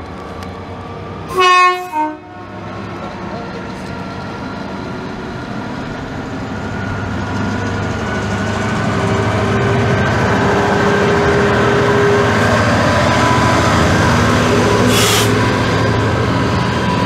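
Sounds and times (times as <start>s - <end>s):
diesel locomotive engine working hard: 0.0s - 17.0s.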